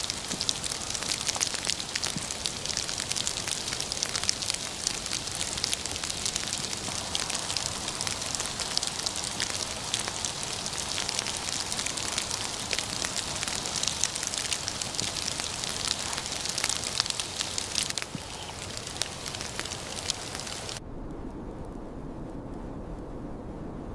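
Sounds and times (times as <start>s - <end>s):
campfire crackling and popping: 0.0s - 20.8s.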